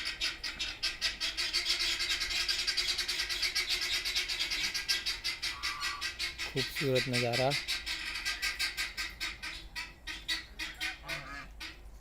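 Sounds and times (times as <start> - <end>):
ducks calling: 0.0 - 12.0.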